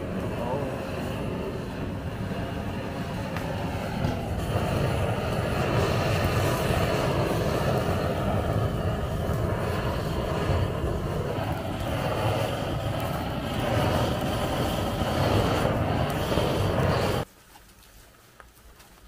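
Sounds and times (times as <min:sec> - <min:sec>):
gas torch burning: 0:00.0 - 0:17.3.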